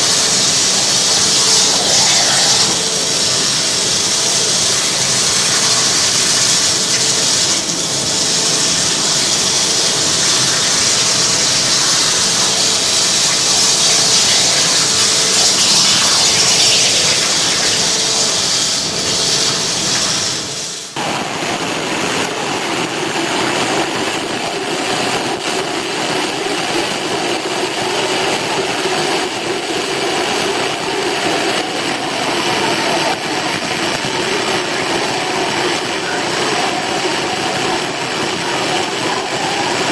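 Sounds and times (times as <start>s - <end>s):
water jet cutter hissing: 0.0s - 39.9s.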